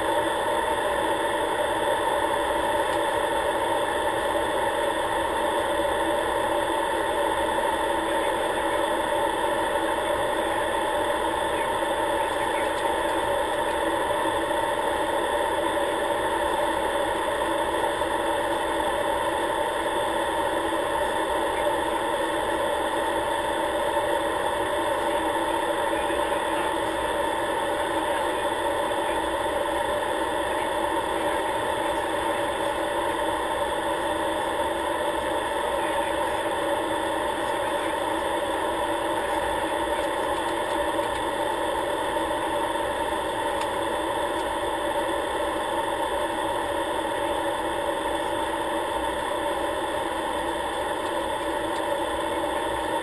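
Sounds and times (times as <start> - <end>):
aircraft engine drone: 0.0 - 53.0.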